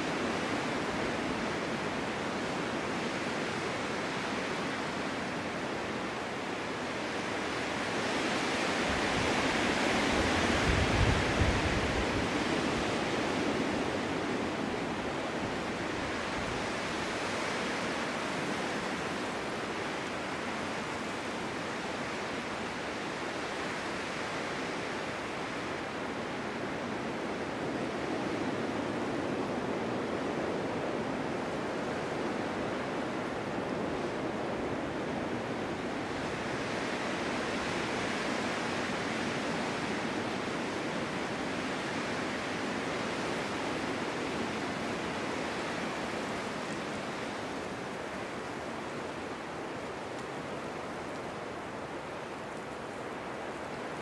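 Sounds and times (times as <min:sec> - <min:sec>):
snowstorm wind gusting: 0:00.0 - 0:54.0.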